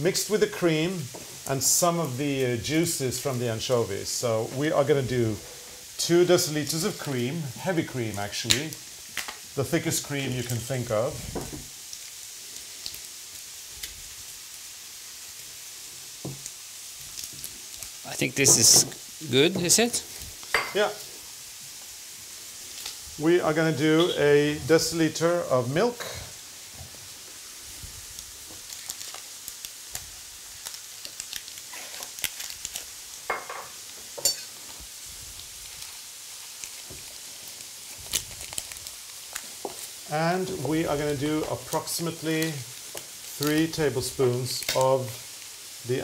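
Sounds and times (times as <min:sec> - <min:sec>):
onions sizzling in a pan: 0:00.0 - 0:46.0.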